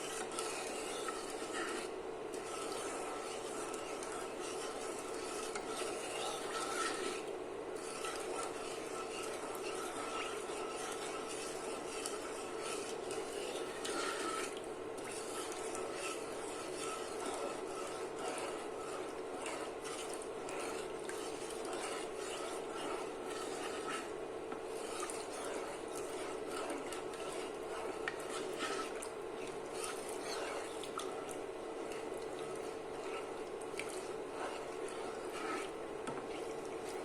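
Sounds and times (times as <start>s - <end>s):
spoon stirring in a pot: 0.0s - 37.0s.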